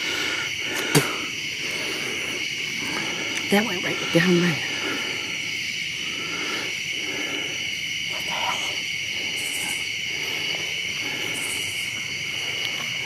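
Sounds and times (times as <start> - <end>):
chorus of night insects: 0.0 - 13.0.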